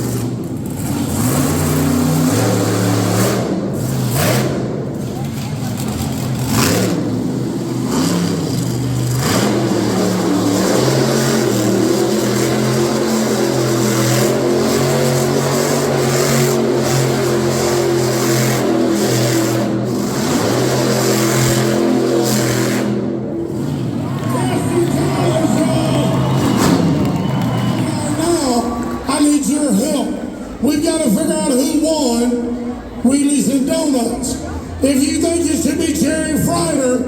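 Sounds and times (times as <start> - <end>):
truck engine revving loud: 0.0 - 37.0.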